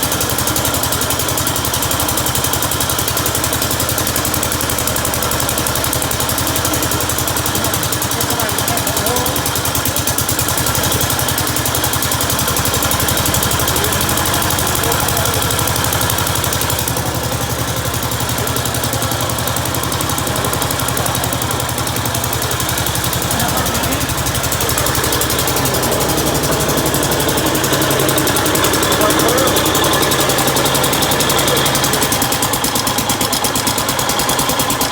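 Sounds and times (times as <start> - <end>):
walk-behind tractor engine running: 0.0 - 34.9.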